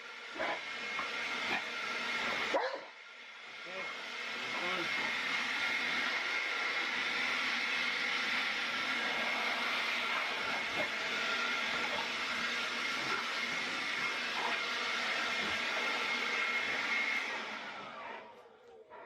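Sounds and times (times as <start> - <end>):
power tool motor whining: 0.0 - 18.6.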